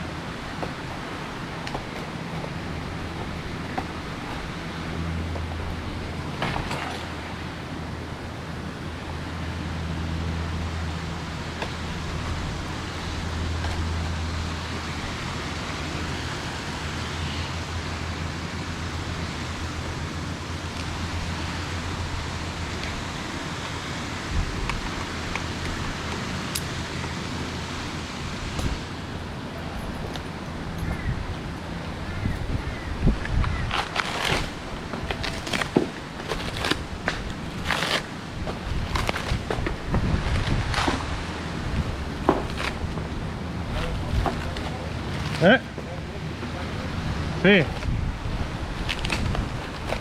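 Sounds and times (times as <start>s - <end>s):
low engine hum: 0.0s - 50.0s
rushing noise: 0.0s - 50.0s.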